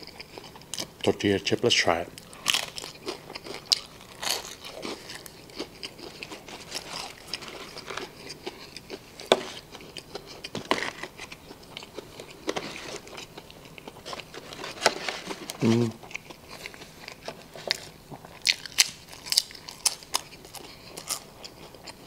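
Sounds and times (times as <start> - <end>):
chewing crunchy food: 0.0 - 1.2, 2.1 - 22.0.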